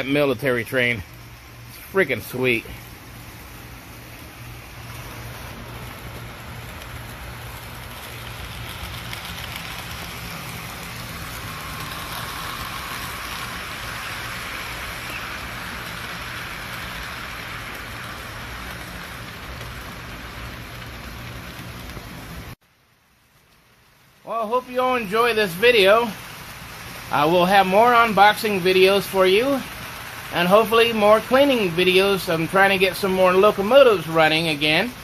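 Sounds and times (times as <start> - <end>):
model train whirring on track: 0.0 - 35.0.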